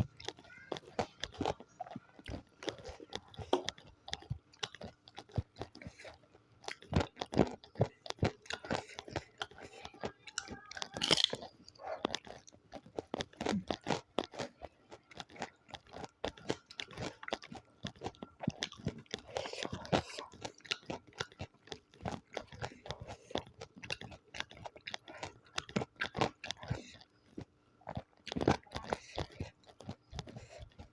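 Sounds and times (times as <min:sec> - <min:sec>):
crunching and chewing: 0:00.0 - 0:30.9.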